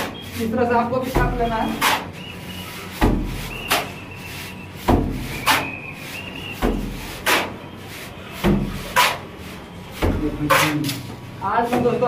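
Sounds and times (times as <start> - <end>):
wet mortar slapping on wall: 0.0 - 12.0.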